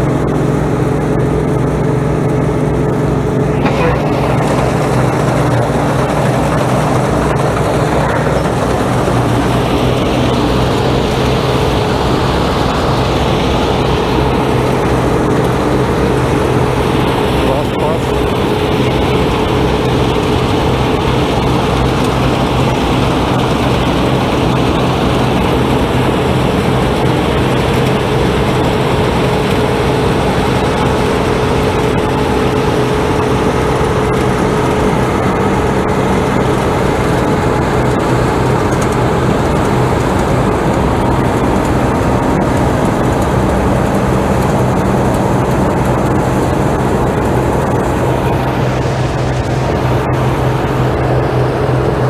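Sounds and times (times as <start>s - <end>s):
farm machine engine droning: 0.0s - 52.0s.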